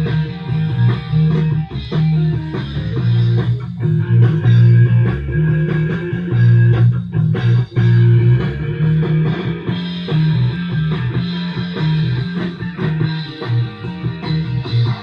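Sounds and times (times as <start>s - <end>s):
bass guitar: 0.0s - 15.0s
drum kit: 0.0s - 15.0s
electric lead guitar: 0.0s - 15.0s.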